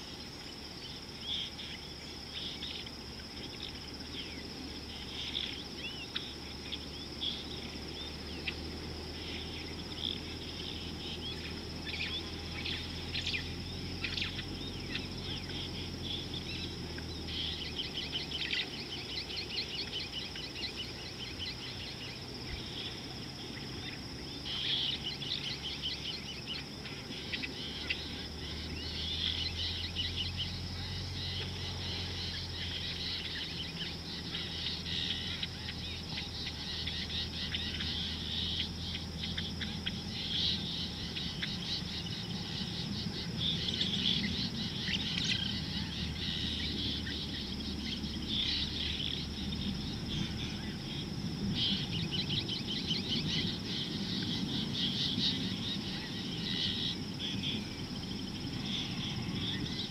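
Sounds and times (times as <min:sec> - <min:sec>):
birds chirping and calling: 0:00.0 - 0:59.9
high-pitched insect drone: 0:00.0 - 0:59.9
low steady hum: 0:00.0 - 0:59.9.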